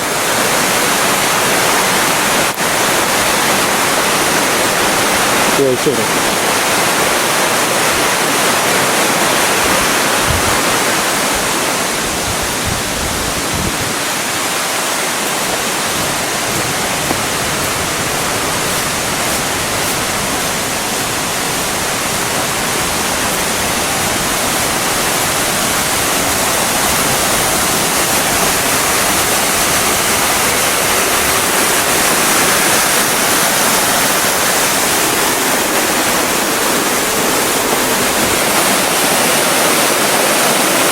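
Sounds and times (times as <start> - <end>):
rushing stream water: 0.0 - 40.9.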